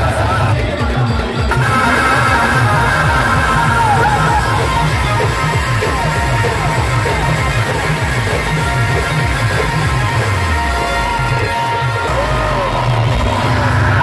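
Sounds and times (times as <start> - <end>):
crowd shouting: 0.0 - 14.0
drum and bass beat: 0.0 - 14.0
sliding lead melody: 0.0 - 14.0.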